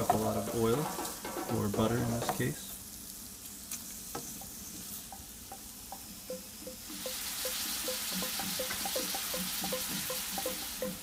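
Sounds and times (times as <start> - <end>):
food sizzling in pan: 0.0 - 11.0.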